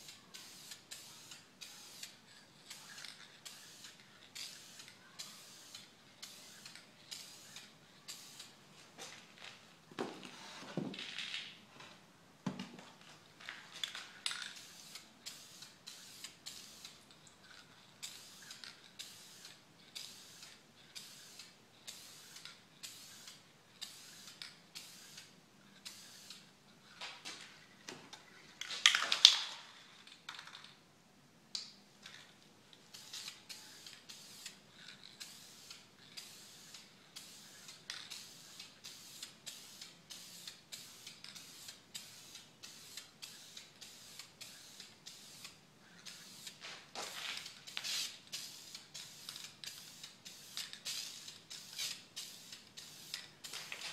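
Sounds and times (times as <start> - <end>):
spray paint can hissing: 0.0 - 9.1, 13.8 - 27.5, 32.8 - 53.9.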